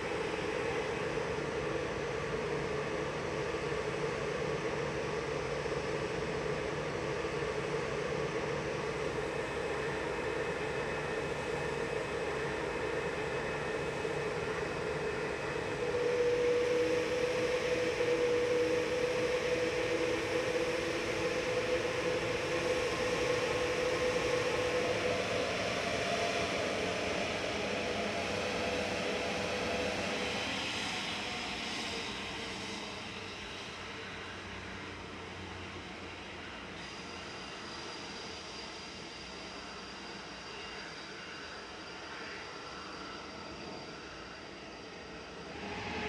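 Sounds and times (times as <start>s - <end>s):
jet engine whine: 0.0s - 46.0s.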